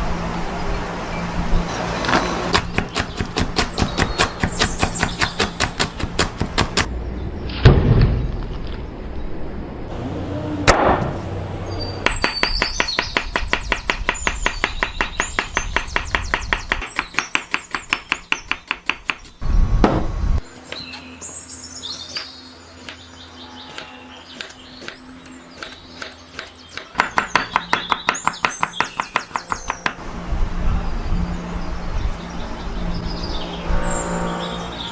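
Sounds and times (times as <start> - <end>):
birds chirping: 0.3 - 19.7, 20.4 - 34.9.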